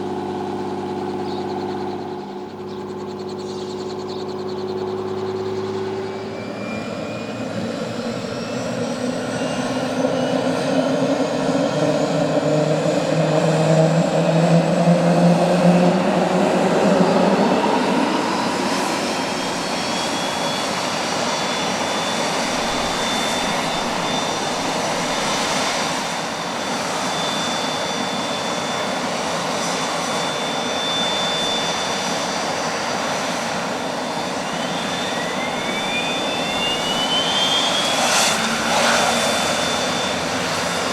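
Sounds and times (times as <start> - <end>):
jet engine spooling up: 0.0 - 40.9.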